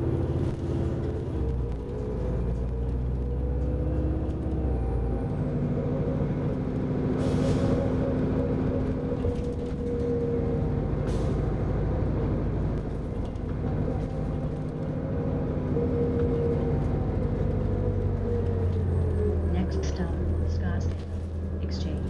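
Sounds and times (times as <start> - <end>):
bus engine rumble and whine: 0.0 - 22.0.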